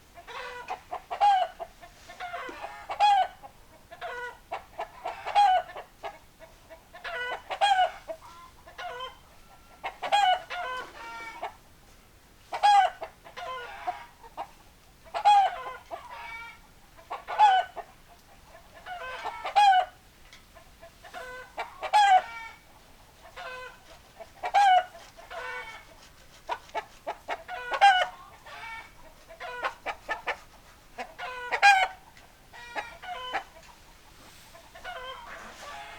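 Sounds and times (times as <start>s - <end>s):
chickens clucking: 0.1s - 11.7s, 12.4s - 35.9s.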